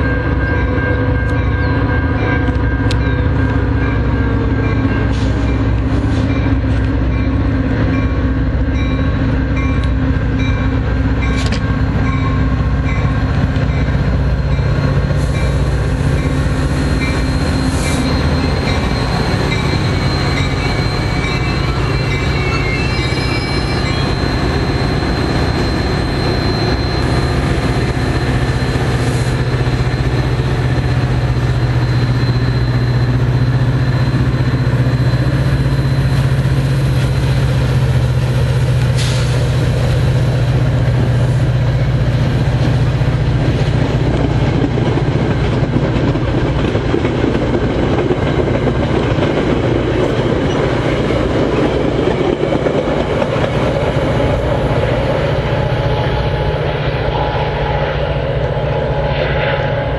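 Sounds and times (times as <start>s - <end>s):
locomotive engine drone: 0.0s - 59.9s
train cars rumbling on rails: 0.0s - 59.9s.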